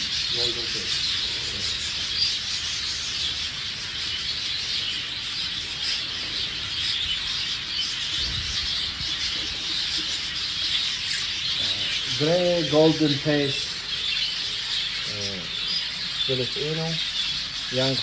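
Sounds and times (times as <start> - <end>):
budgerigars chattering: 0.0 - 18.0.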